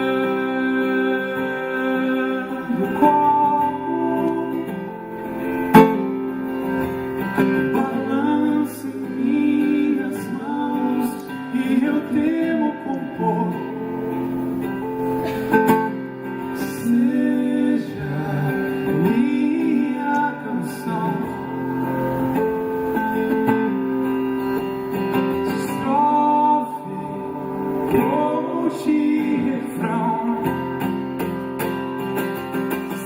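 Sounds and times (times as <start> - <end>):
acoustic guitar song: 0.0 - 33.0.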